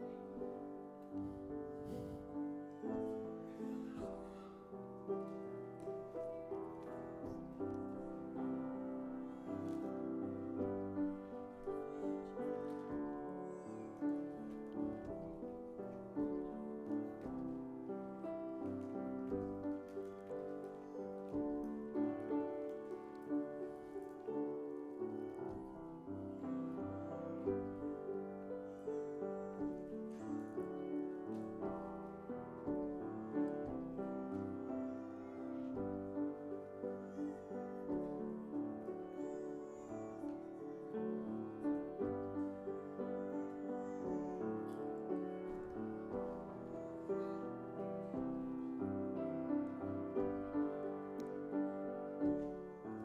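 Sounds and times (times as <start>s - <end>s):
piano playing: 0.0s - 53.0s.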